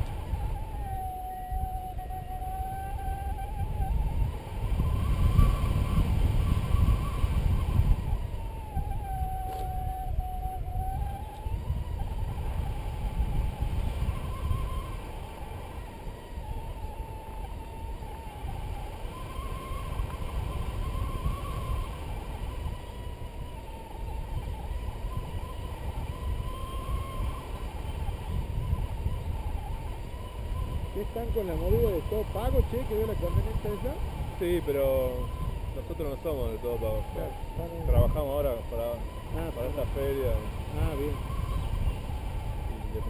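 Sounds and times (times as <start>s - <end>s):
variometer tone drifting in pitch: 0.0s - 43.0s
wind rushing over microphone: 0.0s - 43.0s.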